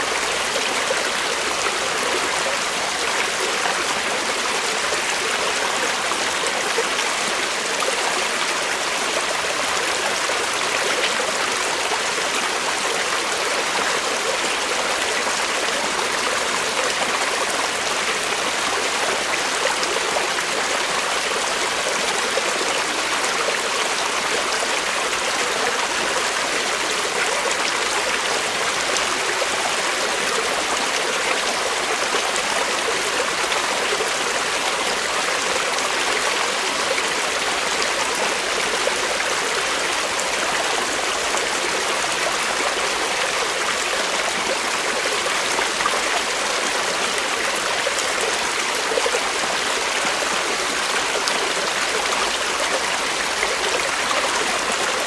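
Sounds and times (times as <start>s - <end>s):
creek flowing over rocks: 0.0s - 55.0s.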